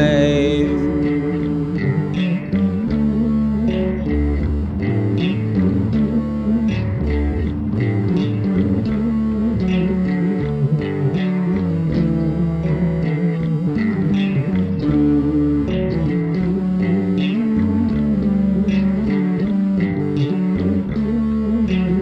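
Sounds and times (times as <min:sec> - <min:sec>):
bass line: 0:00.0 - 0:22.0
guitar: 0:00.0 - 0:22.0.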